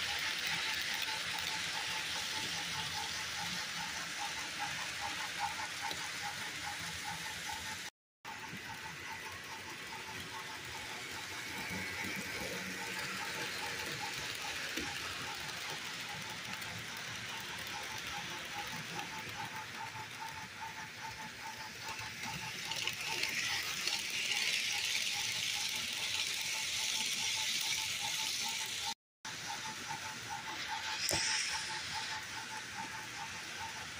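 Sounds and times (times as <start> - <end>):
model train rolling on track: 0.0 - 33.9.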